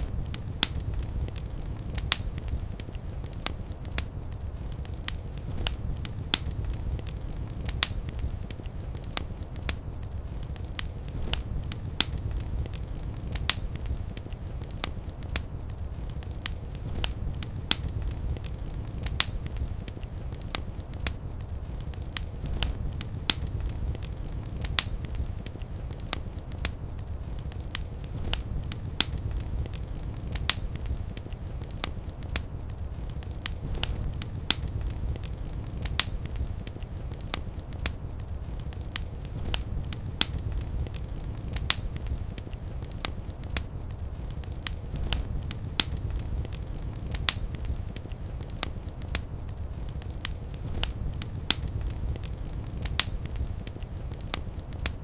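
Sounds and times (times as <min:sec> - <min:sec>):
fire crackling with sharp pops: 0:00.0 - 0:55.0
low rumble of flame: 0:00.0 - 0:55.0.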